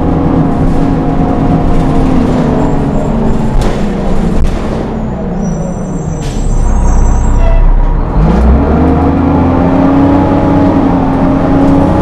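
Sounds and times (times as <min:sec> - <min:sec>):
bus engine running: 0:00.0 - 0:12.0.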